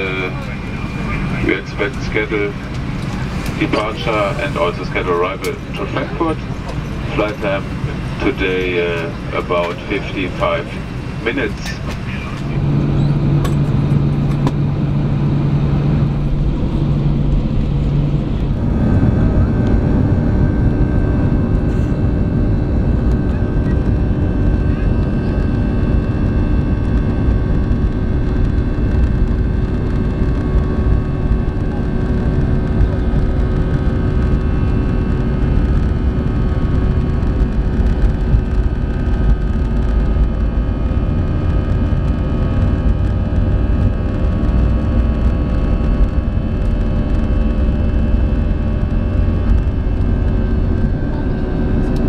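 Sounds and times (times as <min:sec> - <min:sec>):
jet engine whining tones: 0:00.0 - 0:52.0
jet engines low rumble: 0:00.0 - 0:52.0.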